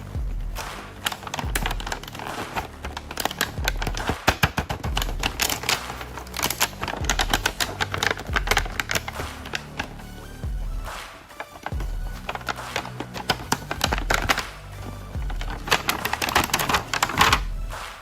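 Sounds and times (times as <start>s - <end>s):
music with steady bass beat: 0.0s - 18.0s
rapid clicks and crackles: 0.0s - 18.0s.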